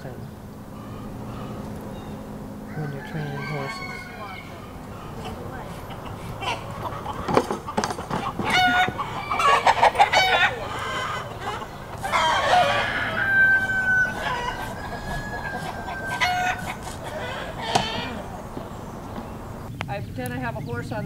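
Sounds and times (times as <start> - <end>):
chickens clucking: 0.0 - 21.0
rooster crowing: 0.7 - 19.7.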